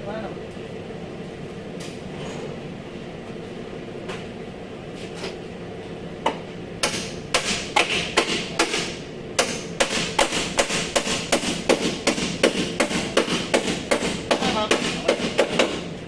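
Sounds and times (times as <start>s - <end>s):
low workshop noise: 0.0s - 16.0s.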